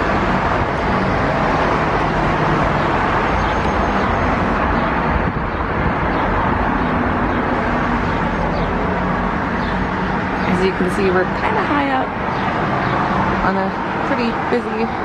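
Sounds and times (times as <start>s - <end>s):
distant street traffic: 0.0s - 15.0s.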